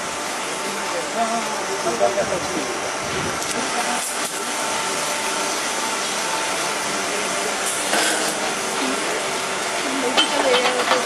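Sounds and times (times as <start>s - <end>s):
hiss of water jets spraying: 0.0s - 11.0s.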